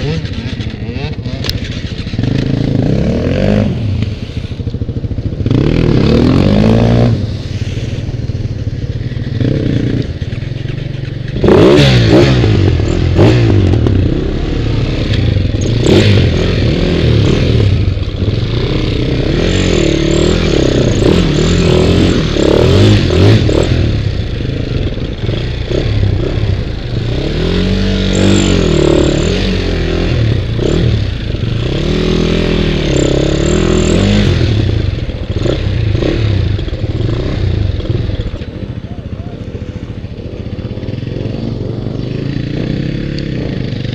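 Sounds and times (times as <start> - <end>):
dirt bike engine revving: 0.0 - 38.7, 40.2 - 43.9.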